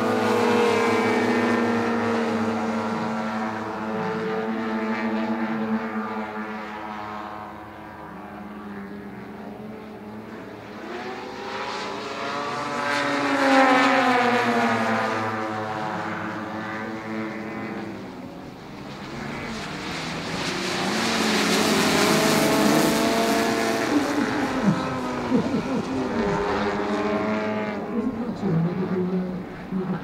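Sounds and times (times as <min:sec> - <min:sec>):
model airplane engines: 0:00.0 - 0:30.0.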